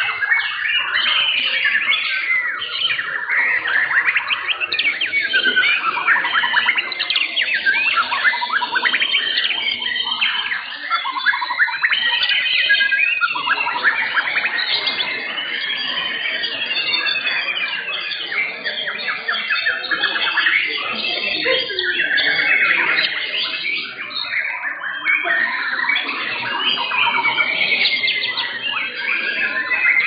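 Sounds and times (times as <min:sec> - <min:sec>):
birds singing rapid chirps and trills: 0:00.0 - 0:30.0.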